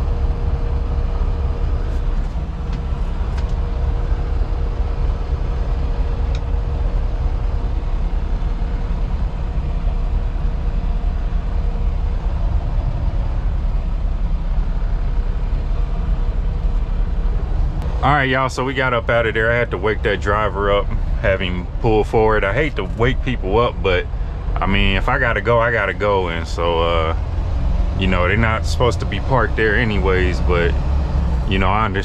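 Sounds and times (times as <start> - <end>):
diesel engine rumble: 0.0 - 32.0
faint steady hum: 0.0 - 32.0.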